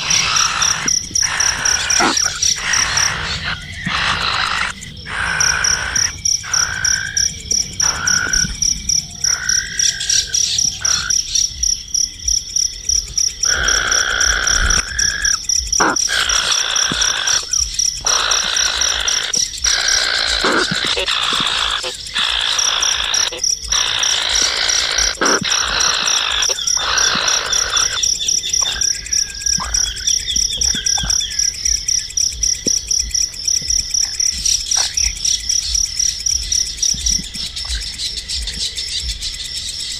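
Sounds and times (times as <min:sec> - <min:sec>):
birds calling: 0:00.0 - 0:11.6, 0:13.3 - 0:39.9
fast-pulsing insect trill: 0:00.0 - 0:39.9.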